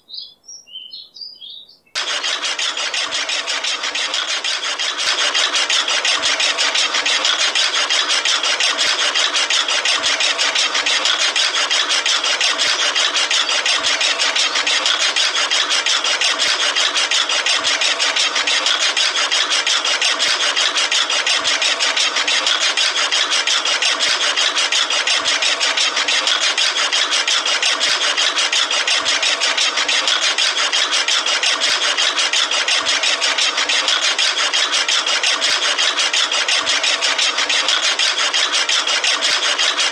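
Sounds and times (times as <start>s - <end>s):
toy motor buzzing: 2.0s - 39.9s.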